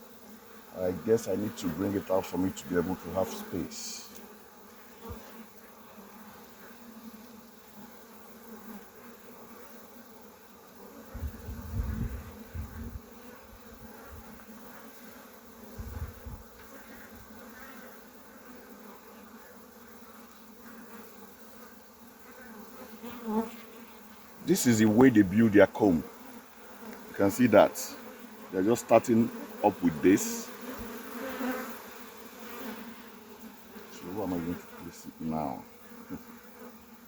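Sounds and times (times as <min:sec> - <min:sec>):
honeybees buzzing: 0:00.0 - 0:37.0.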